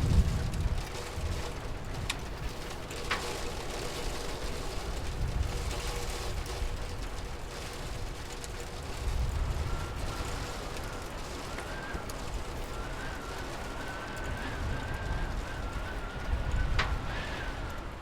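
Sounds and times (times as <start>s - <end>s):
low continuous rumble: 0.0s - 18.0s
steady rain: 0.0s - 18.0s.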